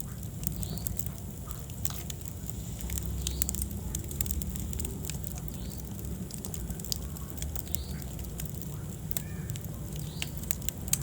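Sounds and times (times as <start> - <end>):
low rumble of flame: 0.0 - 11.0
wood fire crackling and popping: 0.0 - 11.0.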